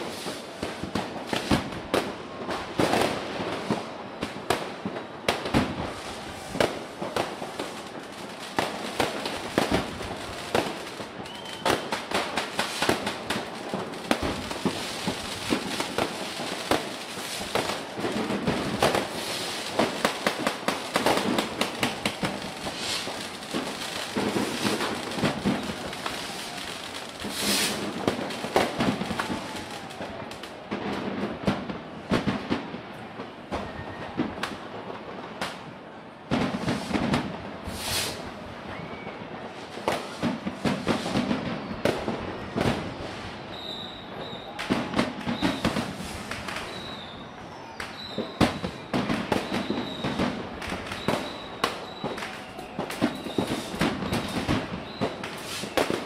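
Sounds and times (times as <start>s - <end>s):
fireworks bangs: 0.0s - 56.0s
fireworks crackling: 0.0s - 56.0s.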